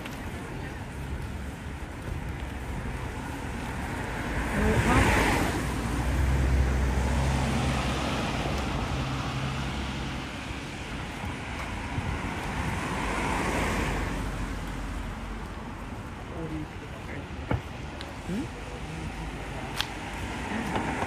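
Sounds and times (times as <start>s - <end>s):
cars passing: 0.0s - 21.0s.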